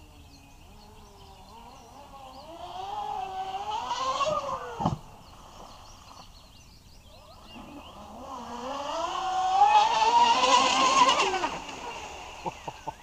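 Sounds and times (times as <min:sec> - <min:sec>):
rc speedboat motor whine: 0:00.0 - 0:13.0.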